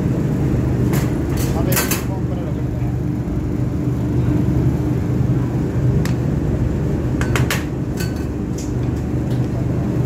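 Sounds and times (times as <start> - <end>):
busy kitchen hum: 0.0 - 10.0.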